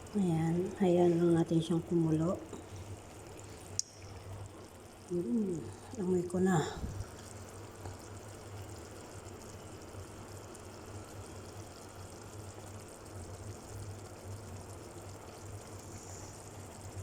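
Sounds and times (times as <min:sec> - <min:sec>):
constant low hum: 0:00.0 - 0:17.0
pot simmering with bubbling: 0:00.0 - 0:17.0.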